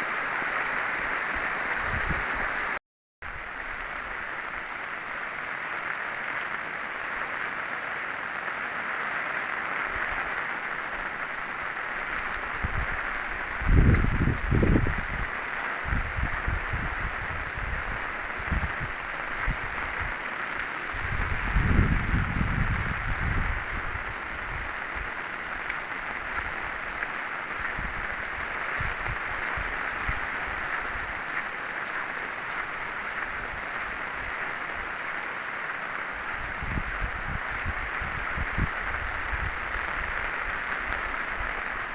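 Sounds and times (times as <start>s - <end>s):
heavy rain downpour: 0.0s - 41.9s.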